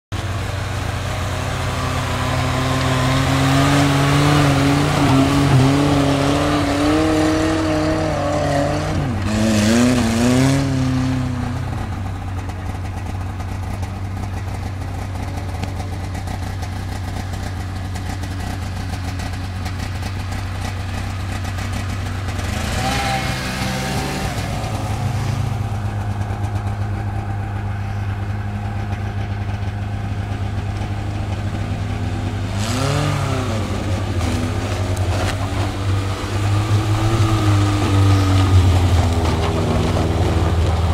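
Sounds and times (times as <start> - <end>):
car engine revving under load: 0.1 - 40.9.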